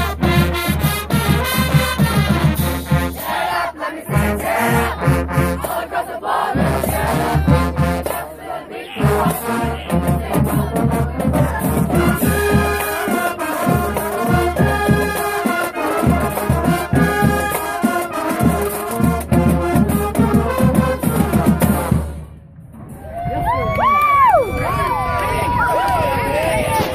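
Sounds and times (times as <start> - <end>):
marching band brass horns: 0.0 - 22.5
driving drumline: 0.0 - 24.4.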